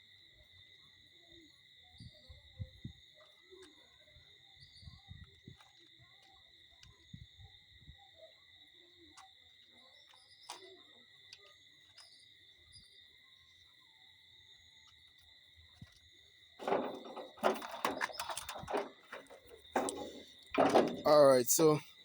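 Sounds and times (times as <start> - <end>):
insect chorus trilling: 0.0 - 22.0.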